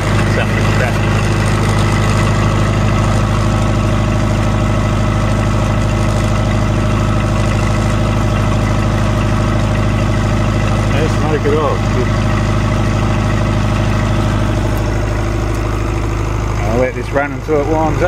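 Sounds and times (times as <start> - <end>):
diesel generator engine running: 0.0 - 18.0.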